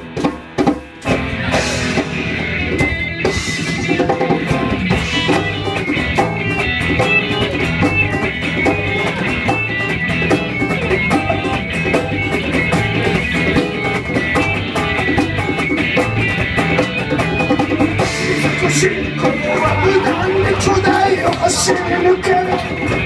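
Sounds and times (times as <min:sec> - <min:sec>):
drum kit steady beat: 0:00.0 - 0:23.0
electric guitar: 0:00.0 - 0:23.0
bass line: 0:01.0 - 0:23.0.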